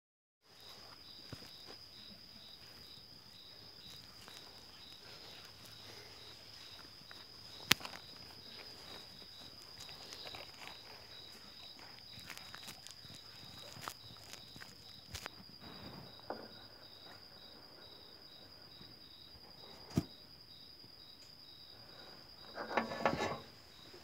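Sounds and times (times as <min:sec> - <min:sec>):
crickets trilling: 0:00.5 - 0:24.0
pulsing insect chirp: 0:00.5 - 0:24.0.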